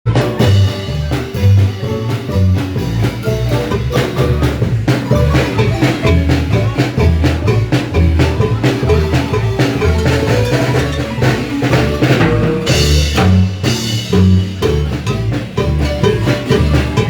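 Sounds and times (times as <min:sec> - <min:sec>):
marimba music with bass and drums: 0:00.1 - 0:17.0.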